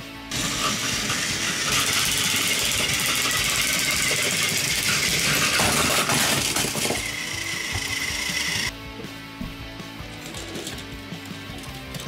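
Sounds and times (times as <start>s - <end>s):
toy train motors whirring: 0.3s - 8.7s, 10.2s - 12.0s.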